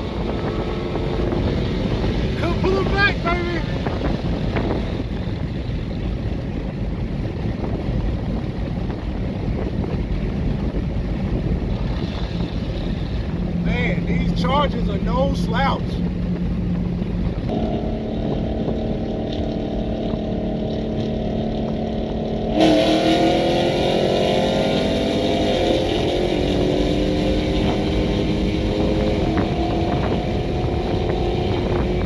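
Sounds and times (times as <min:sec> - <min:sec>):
car engines accelerating: 0:00.0 - 0:32.0.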